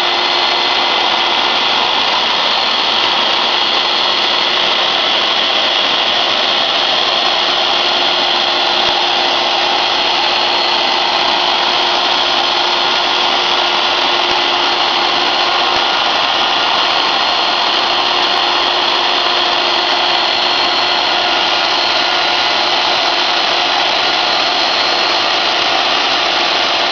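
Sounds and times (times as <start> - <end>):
router spindle whining while cutting: 0.0 - 26.9.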